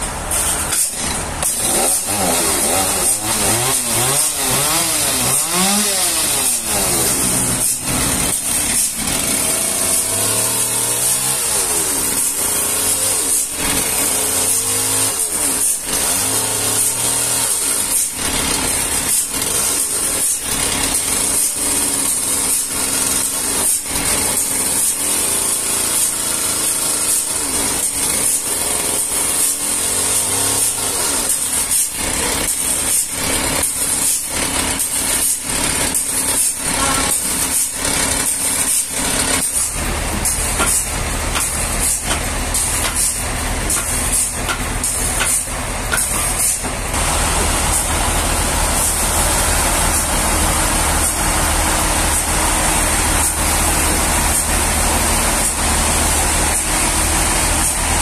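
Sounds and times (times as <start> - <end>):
sawmill machinery whining: 0.0 - 58.0.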